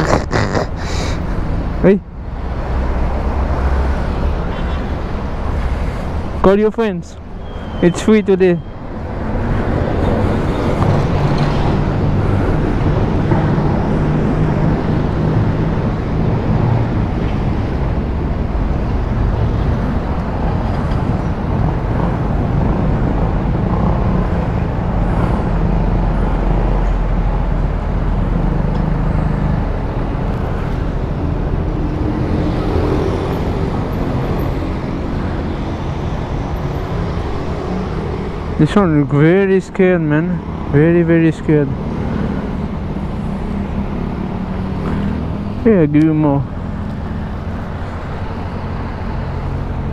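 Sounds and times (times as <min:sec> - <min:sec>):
low hum of vehicle engines: 0:00.0 - 0:49.9
road traffic noise: 0:00.0 - 0:49.9.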